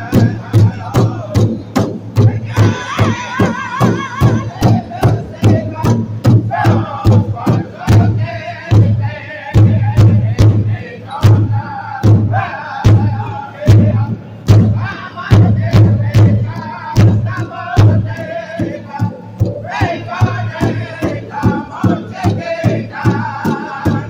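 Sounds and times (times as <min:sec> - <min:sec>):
group singing in high voices: 0:00.0 - 0:01.6, 0:02.2 - 0:24.0
large drum steady beat: 0:00.0 - 0:24.0.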